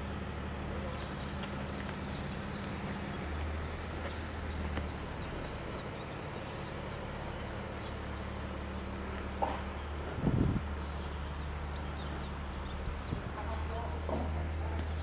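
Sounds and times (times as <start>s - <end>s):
small birds chirping: 0.5s - 15.0s.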